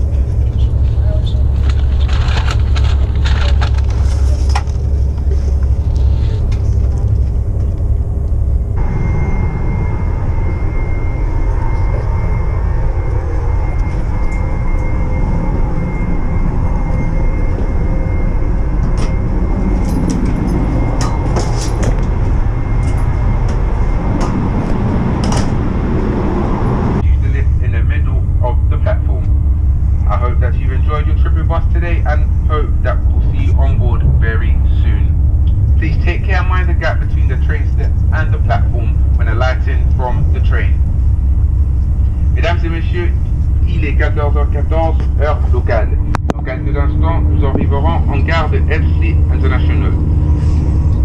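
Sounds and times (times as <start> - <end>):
faint high whine: 0.0 - 51.0
train cabin rumble: 0.0 - 51.0.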